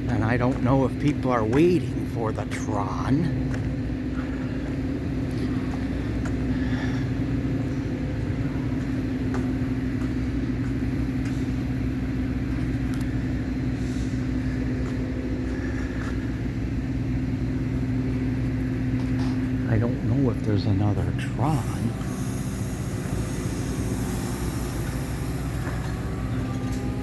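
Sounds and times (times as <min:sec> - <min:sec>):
diesel locomotive idling: 0:00.0 - 0:27.0.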